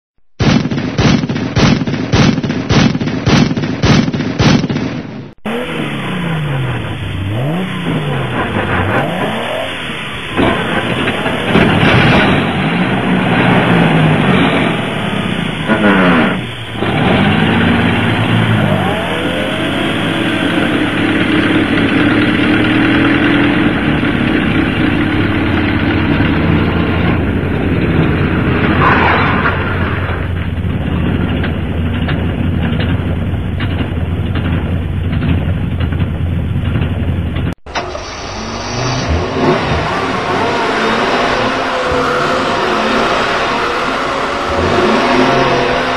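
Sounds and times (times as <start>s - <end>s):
sharp bangs: 0.4s - 45.9s
vehicle engine revving: 5.3s - 45.9s.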